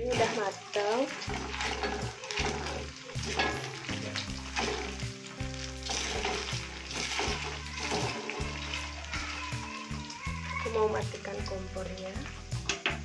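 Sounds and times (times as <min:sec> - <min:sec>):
chicken sizzling in hot oil: 0:00.0 - 0:13.0
wooden spatula stirring: 0:00.0 - 0:13.0.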